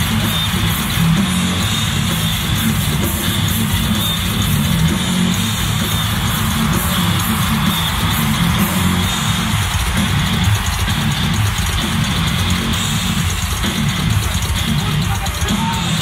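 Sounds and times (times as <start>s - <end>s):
drum kit: 0.0s - 16.0s
electric guitar: 0.0s - 16.0s.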